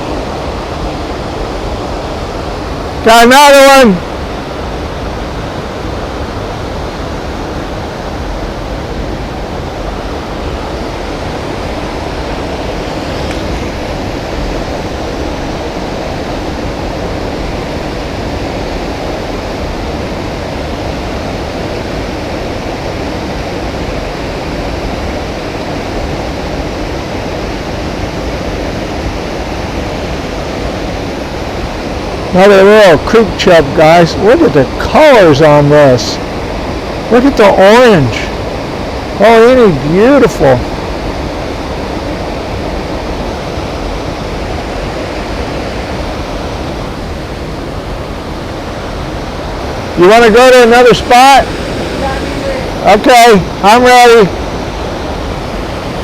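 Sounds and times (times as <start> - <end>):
creek water rushing over rocks: 0.0 - 56.0.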